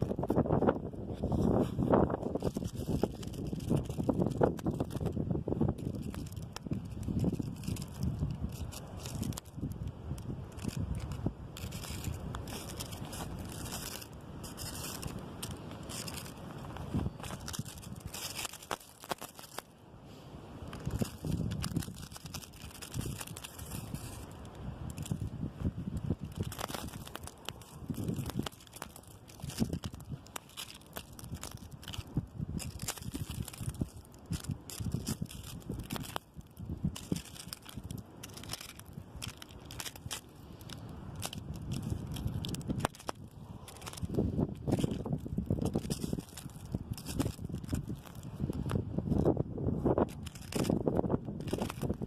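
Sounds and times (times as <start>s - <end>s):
wind buffeting microphone: 0.0s - 19.6s, 20.4s - 52.0s
branches rustling and crackling: 0.0s - 52.0s
wind shaking tree branches: 0.0s - 52.0s.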